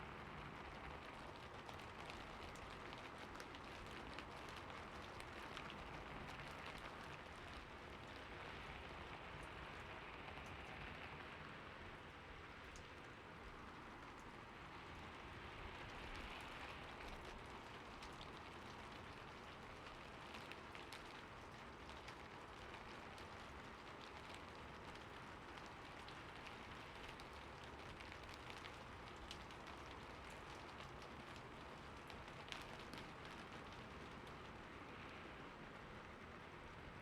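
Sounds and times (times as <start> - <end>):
rain falling: 0.0 - 37.0
raindrops ticking on hard surfaces: 0.0 - 37.0.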